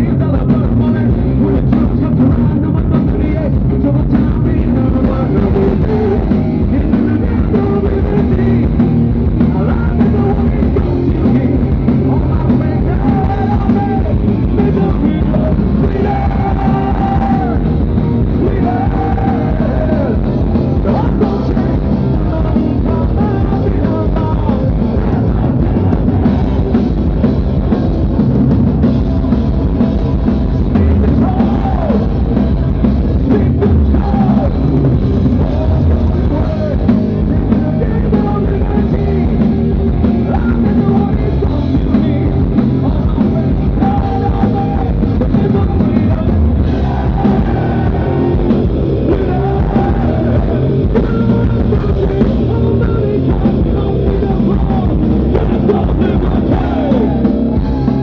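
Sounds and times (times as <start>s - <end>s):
person singing into microphone: 0.0s - 27.8s, 30.0s - 58.0s
rock band playing live: 0.0s - 58.0s.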